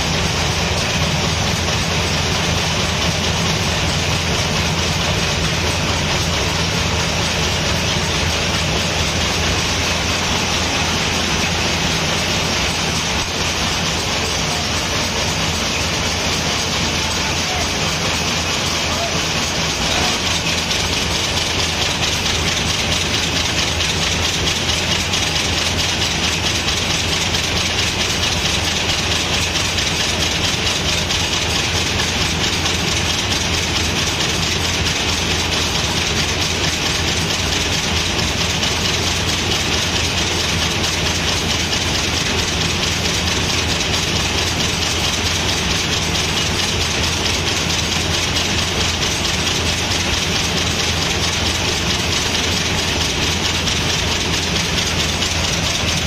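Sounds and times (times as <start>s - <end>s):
fast metallic machine clatter: 0.0s - 56.0s.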